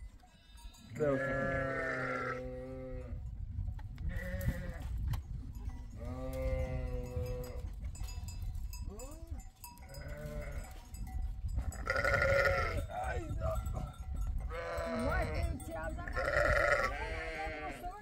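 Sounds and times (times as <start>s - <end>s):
sheep and goats bleating: 0.2s - 3.2s, 4.0s - 5.0s, 5.9s - 9.1s, 9.8s - 11.0s, 11.6s - 18.0s.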